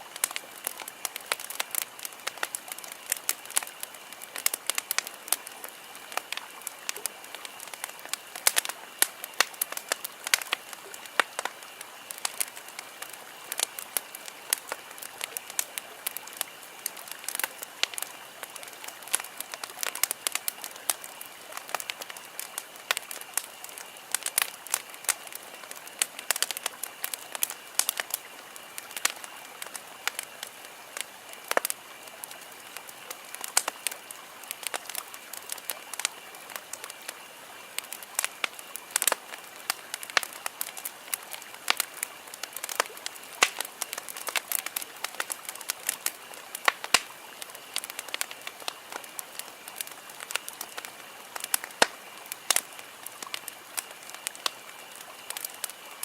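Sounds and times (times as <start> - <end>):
campfire crackling and popping: 0.0 - 56.0
soft steady hiss: 0.0 - 56.0.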